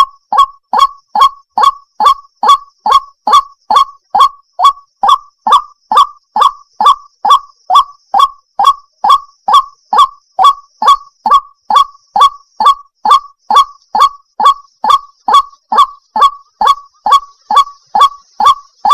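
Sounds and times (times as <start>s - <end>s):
bird croaking call: 0.0s - 18.9s.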